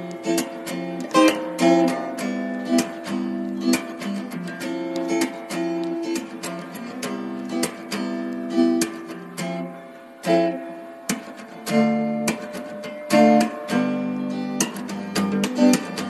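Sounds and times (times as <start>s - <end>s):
plucked string chords: 0.0s - 16.0s.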